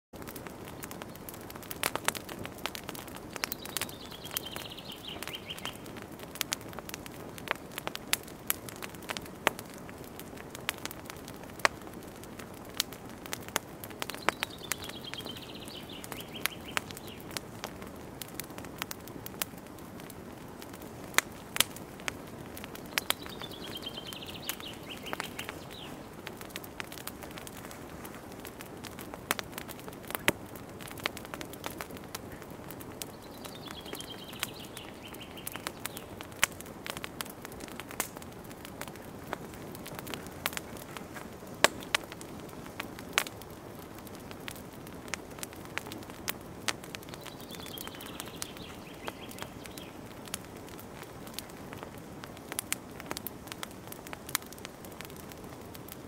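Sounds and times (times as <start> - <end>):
fire crackling and popping: 0.1 - 56.0.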